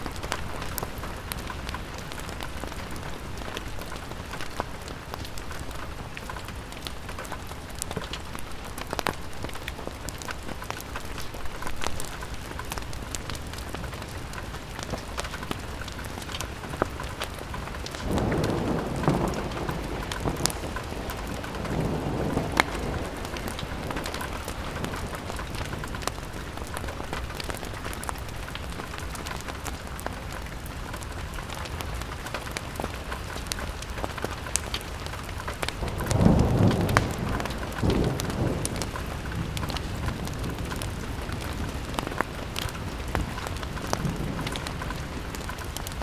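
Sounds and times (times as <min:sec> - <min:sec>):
rain on a window: 0:00.0 - 0:46.0.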